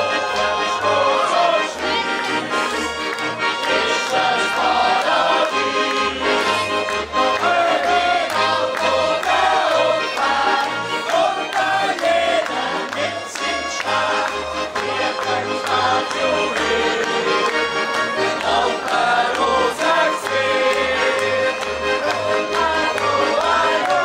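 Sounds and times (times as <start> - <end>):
button accordion playing: 0.0 - 24.0.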